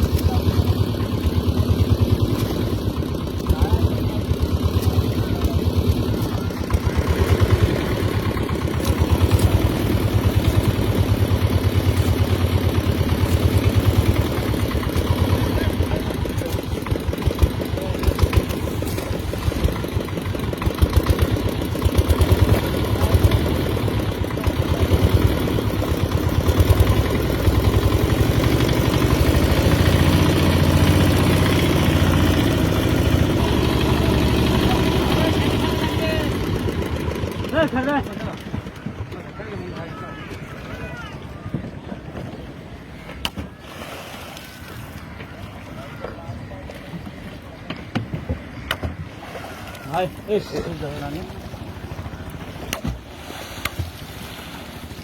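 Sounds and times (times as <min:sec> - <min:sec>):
engine running: 0:00.0 - 0:43.7, 0:44.4 - 0:55.0.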